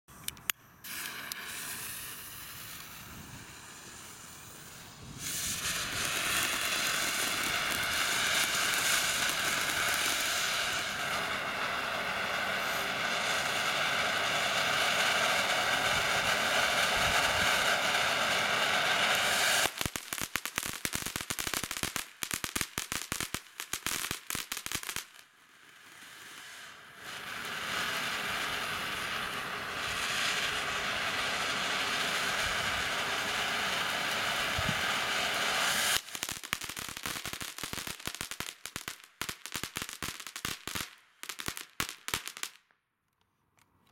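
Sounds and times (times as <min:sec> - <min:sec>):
firework fountain hissing and crackling: 0:00.1 - 0:42.6.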